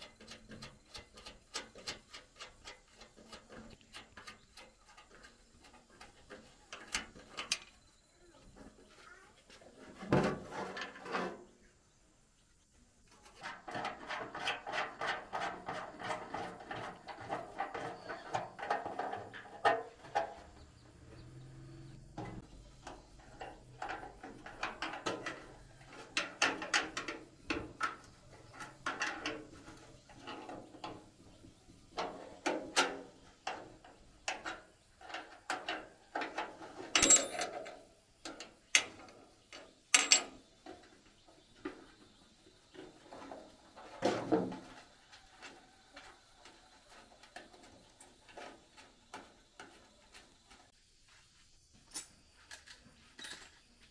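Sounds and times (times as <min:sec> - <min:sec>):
hand scraping inside metal hopper: 0:00.0 - 0:11.9, 0:13.1 - 0:50.7.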